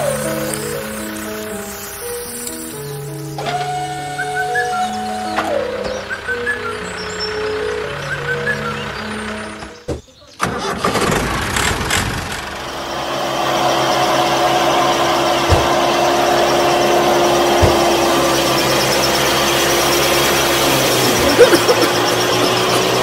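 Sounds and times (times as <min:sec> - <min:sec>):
small motor whining: 0:00.0 - 0:23.0.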